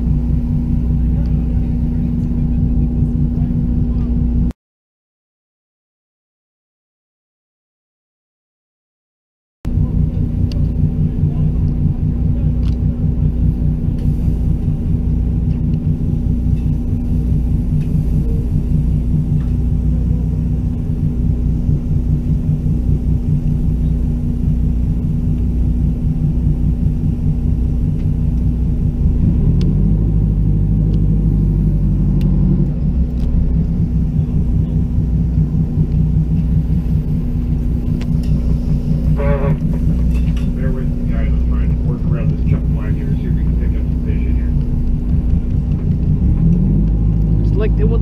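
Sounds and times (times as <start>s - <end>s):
boat engine running: 0.0s - 4.5s, 9.7s - 48.0s.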